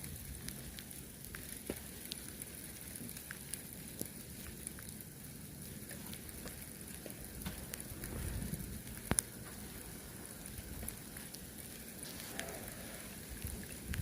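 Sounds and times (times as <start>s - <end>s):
icy snow grains ticking: 0.0s - 14.0s
steady hiss: 0.0s - 14.0s.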